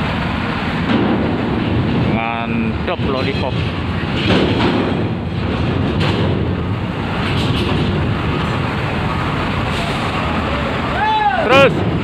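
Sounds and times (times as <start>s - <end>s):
diesel bus engine rumbling: 0.0s - 12.0s
tyres on metal ramp: 0.6s - 12.0s.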